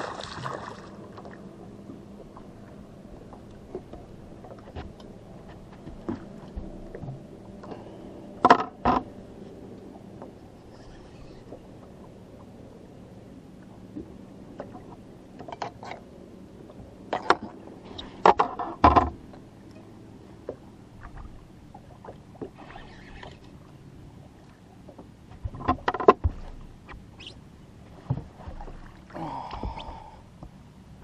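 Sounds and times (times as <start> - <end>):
knocks and clatters on a boat: 0.3 - 12.6, 13.6 - 31.0.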